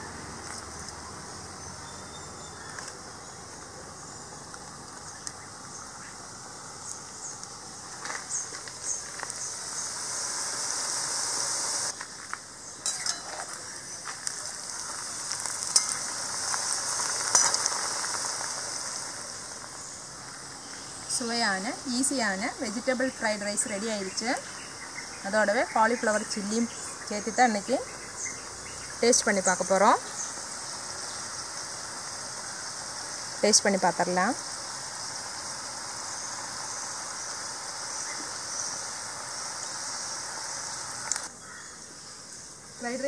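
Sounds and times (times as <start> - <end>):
deep-frying in hot oil: 4.0 - 41.3.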